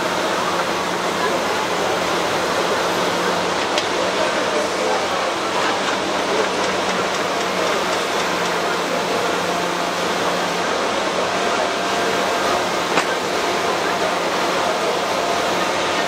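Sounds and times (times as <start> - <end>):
busy hall noise: 0.0 - 16.0.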